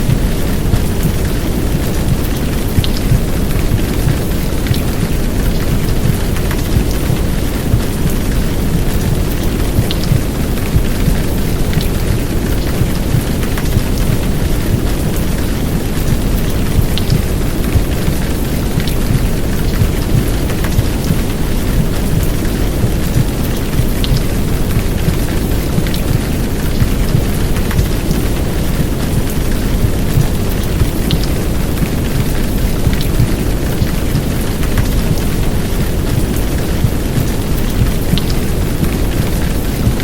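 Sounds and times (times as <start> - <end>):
heartbeat: 0.0 - 40.0
heavy rain: 0.0 - 40.0
white noise: 0.0 - 40.0.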